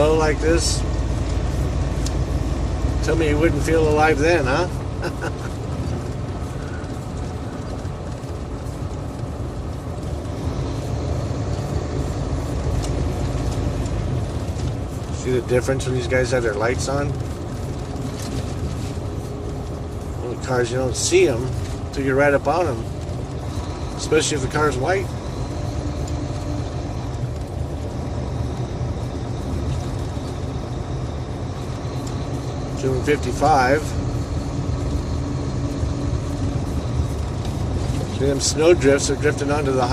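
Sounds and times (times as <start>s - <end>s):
diesel truck engine drone: 0.0s - 39.9s
road noise: 0.0s - 39.9s.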